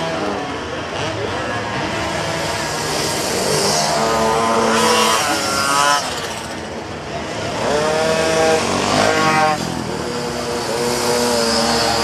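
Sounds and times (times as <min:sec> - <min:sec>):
pocket bike engines racing: 0:00.0 - 0:12.0.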